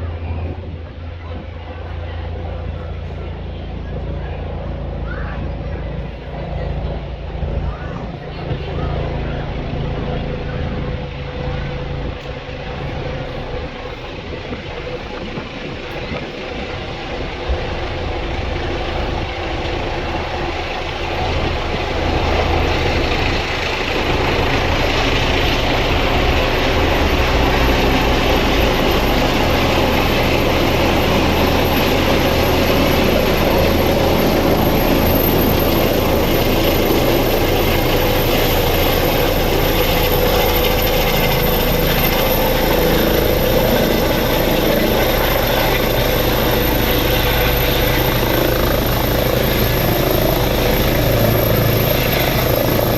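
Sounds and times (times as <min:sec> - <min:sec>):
helicopter rotor and turbine: 0:00.0 - 0:52.9
high steady whine: 0:00.0 - 0:52.9.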